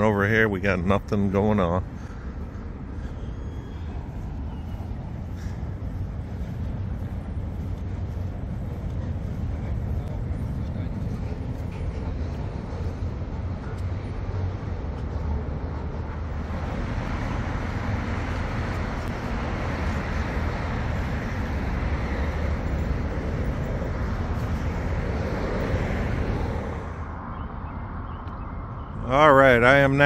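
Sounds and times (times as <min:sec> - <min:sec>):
road traffic rushing: 0:00.0 - 0:30.0.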